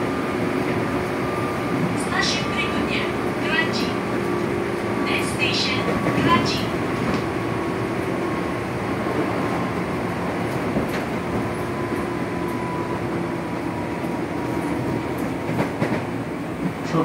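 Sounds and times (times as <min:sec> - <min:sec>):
train wheels and motors running: 0:00.0 - 0:17.0.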